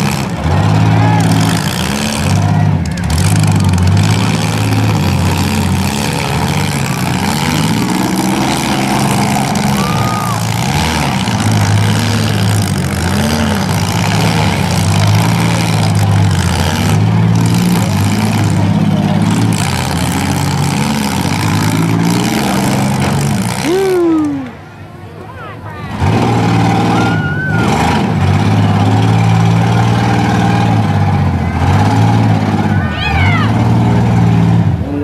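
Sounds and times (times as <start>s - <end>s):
small car engines revving: 0.0s - 35.0s.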